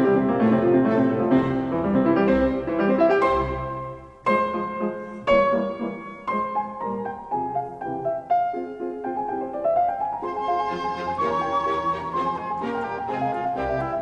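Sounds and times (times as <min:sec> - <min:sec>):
slow classical piano piece: 0:00.0 - 0:14.0.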